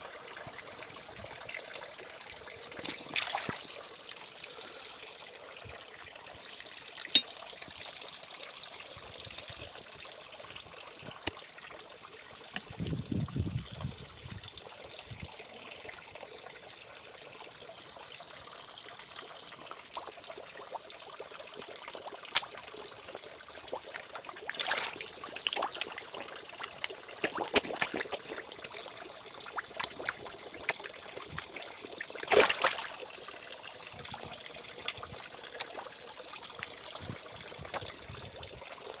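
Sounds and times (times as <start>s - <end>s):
fish splashing and slurping: 0.0s - 39.0s
pond water trickling: 0.0s - 39.0s.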